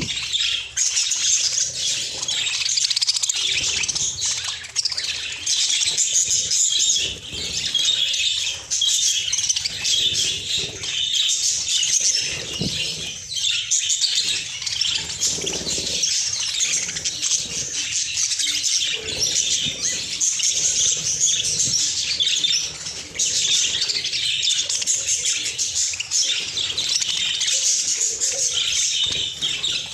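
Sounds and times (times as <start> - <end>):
flock of budgerigars chirping: 0.0 - 29.9.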